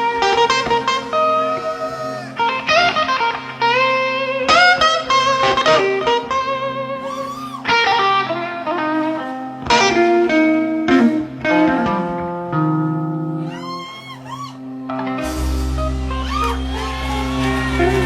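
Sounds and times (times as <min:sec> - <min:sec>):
electric guitar lead with bends: 0:00.0 - 0:18.0.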